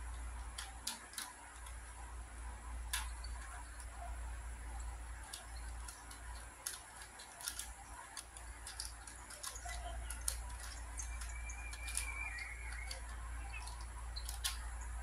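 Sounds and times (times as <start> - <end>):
puzzle cube plastic clicks: 0.0 - 15.0.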